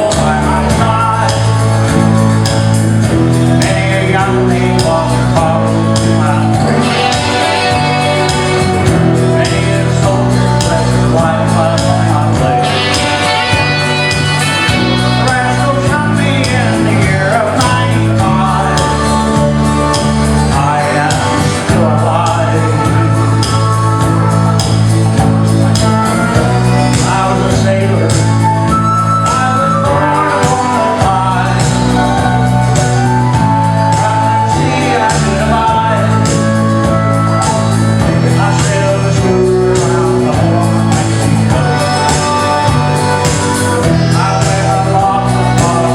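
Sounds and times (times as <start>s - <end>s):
bass line: 0.0s - 45.9s
guitar: 0.0s - 45.9s
man singing: 0.0s - 45.9s.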